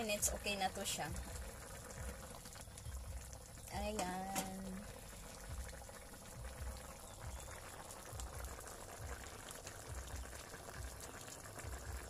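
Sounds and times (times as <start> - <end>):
stew bubbling: 0.0 - 12.0.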